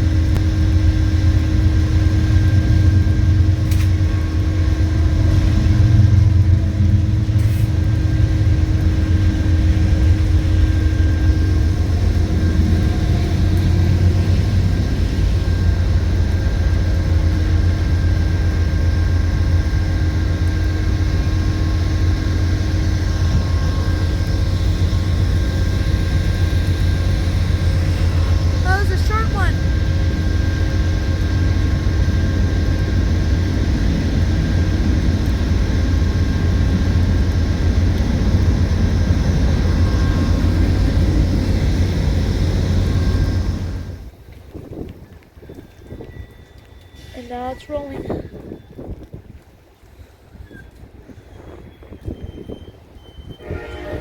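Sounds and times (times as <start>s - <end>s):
diesel train rumbling: 0.0s - 54.0s.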